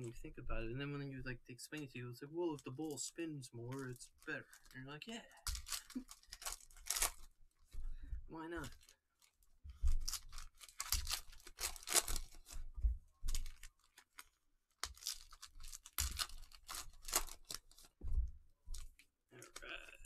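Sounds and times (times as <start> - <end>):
plastic wrappers crinkling: 2.3 - 7.8, 8.4 - 18.0, 18.6 - 19.6.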